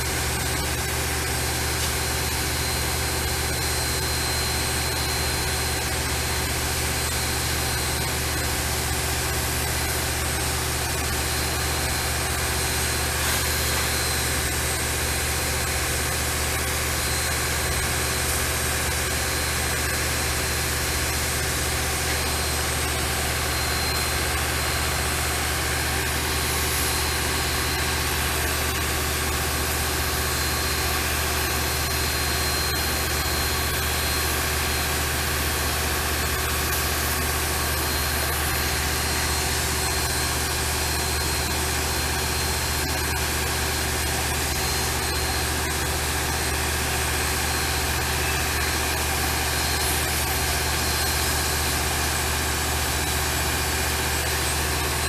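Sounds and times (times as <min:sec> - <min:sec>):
heavy engine idling: 0:00.0 - 0:55.0.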